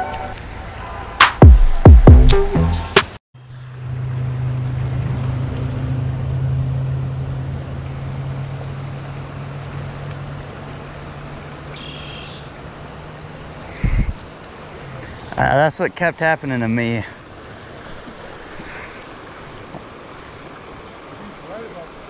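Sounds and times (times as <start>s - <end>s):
creek water rushing: 3.4s - 22.0s.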